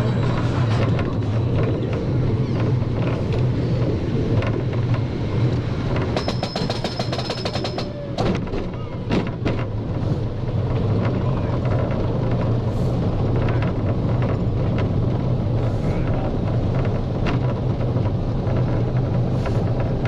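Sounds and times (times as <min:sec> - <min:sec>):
roller coaster train rumbling: 0:00.0 - 0:20.0.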